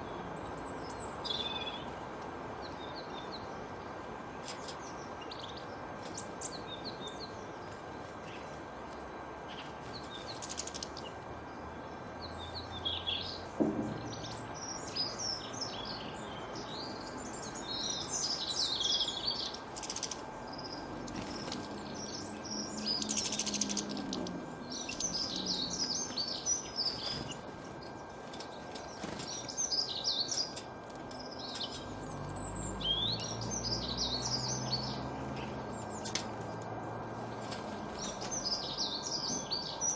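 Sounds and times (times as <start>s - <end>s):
birds chirping and singing: 0.0s - 39.9s
outdoor background noise: 0.0s - 39.9s.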